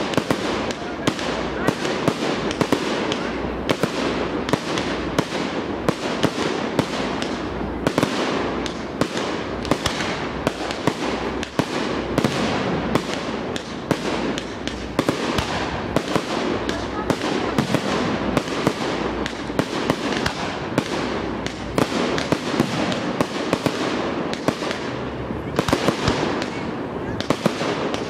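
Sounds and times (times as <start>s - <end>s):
firework bangs: 0.0s - 28.0s
fireworks crackling: 0.0s - 28.0s.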